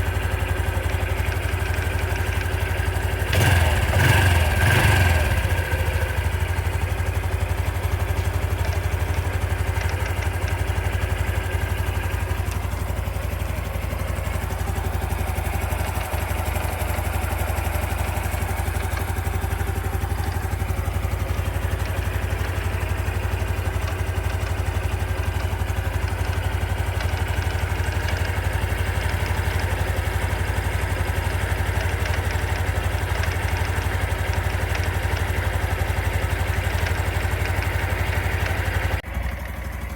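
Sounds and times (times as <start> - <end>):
motorcycle engine idling: 0.0 - 39.9
rapid engine rattle: 0.0 - 39.9.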